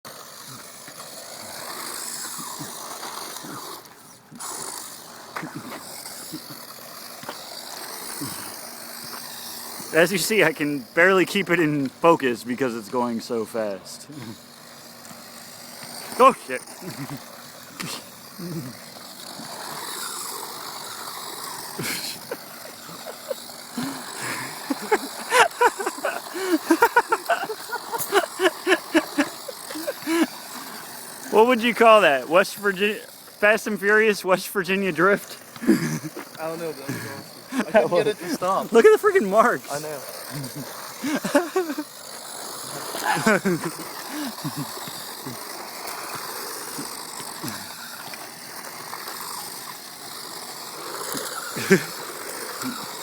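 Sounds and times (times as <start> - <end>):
rc truck driving: 0.0 - 53.0.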